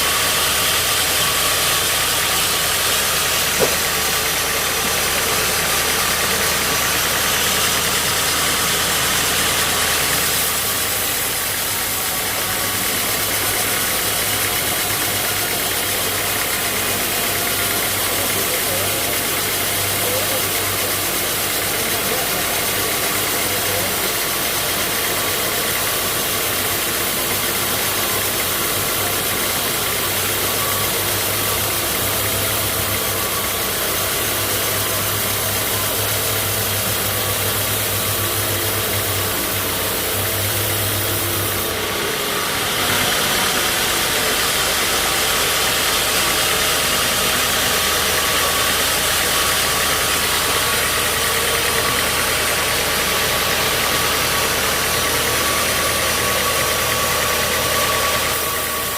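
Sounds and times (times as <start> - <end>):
engine running steadily: 0.0 - 58.9
steady machine hum: 0.0 - 58.9.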